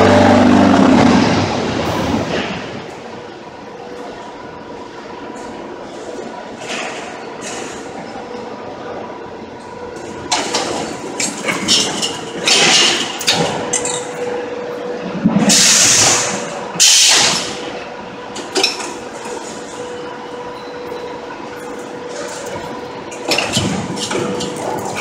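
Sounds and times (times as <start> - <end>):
steady machine hum: 0.0 - 25.0.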